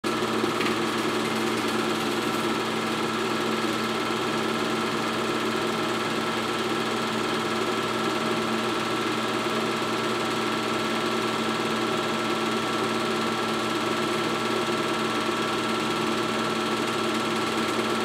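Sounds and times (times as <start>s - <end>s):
film projector motor whirring: 0.1s - 18.0s.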